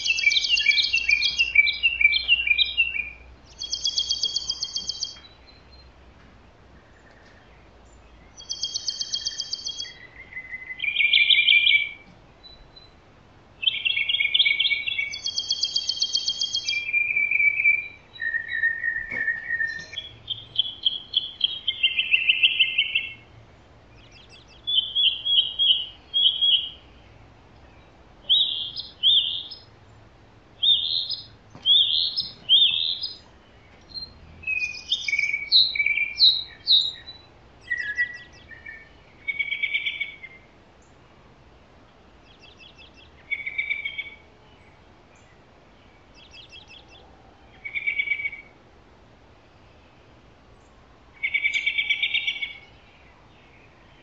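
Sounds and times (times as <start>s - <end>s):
songbird singing trills: 0.0s - 6.0s, 6.7s - 48.6s, 49.3s - 54.0s.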